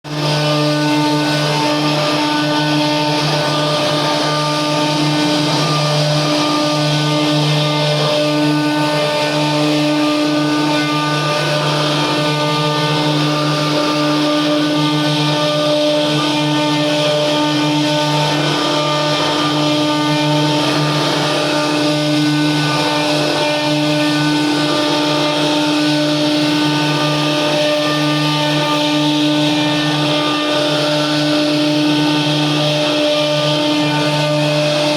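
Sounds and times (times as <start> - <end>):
router cutter noise: 0.0 - 34.9
motor whine: 0.1 - 34.9.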